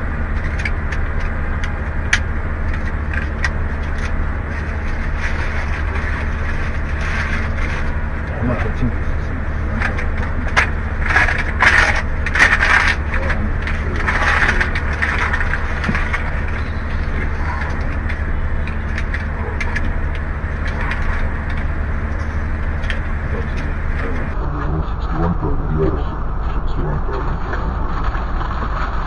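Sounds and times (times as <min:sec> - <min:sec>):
car cabin hum: 0:00.0 - 0:29.0
rustling and clicking handling noises: 0:00.3 - 0:24.4.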